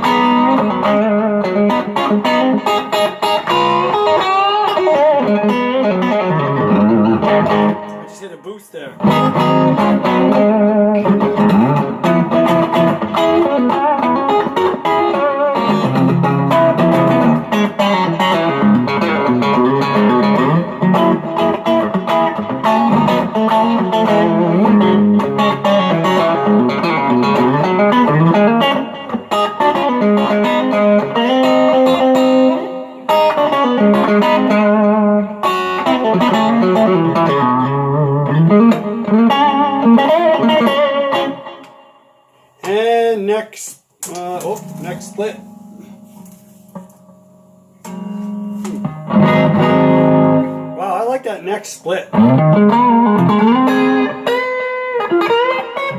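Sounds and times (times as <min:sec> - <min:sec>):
overdriven electric guitar: 0:00.0 - 0:42.7, 0:44.0 - 0:50.8, 0:52.1 - 0:55.9.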